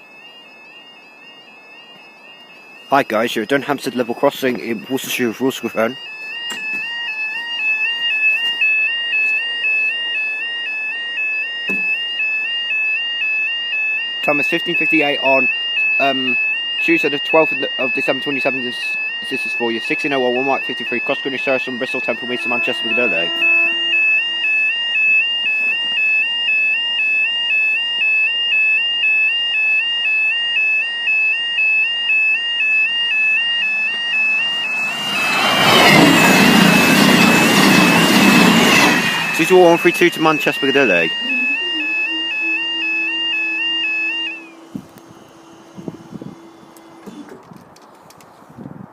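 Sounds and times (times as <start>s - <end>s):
two-tone crossing alarm: 0.0s - 47.4s.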